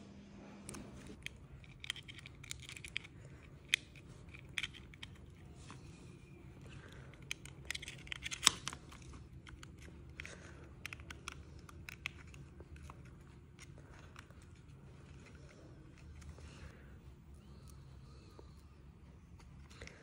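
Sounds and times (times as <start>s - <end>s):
small plastic clicks and crinkles: 0.7s - 16.7s.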